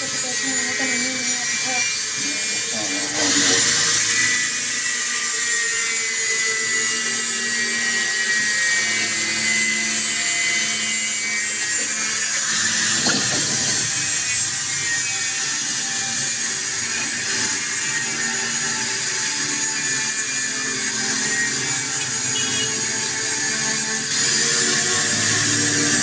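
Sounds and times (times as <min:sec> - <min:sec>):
power tool whining on metal: 0:00.0 - 0:26.0.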